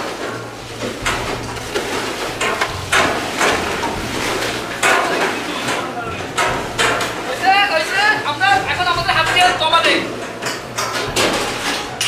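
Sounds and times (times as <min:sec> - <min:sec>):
paddles knocking a metal pot: 0:00.0 - 0:12.0
steady low hum: 0:00.0 - 0:12.0.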